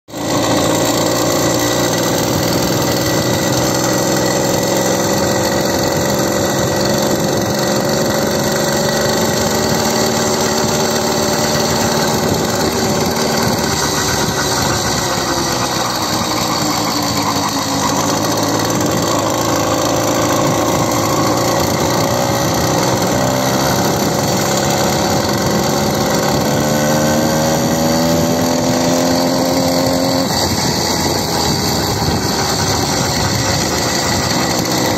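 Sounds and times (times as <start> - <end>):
vehicle engine running: 0.1 - 34.9.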